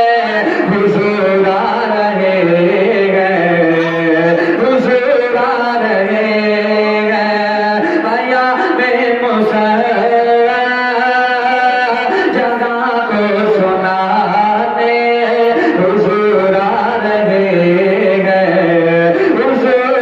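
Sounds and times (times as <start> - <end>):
person singing long held notes: 0.0 - 20.0.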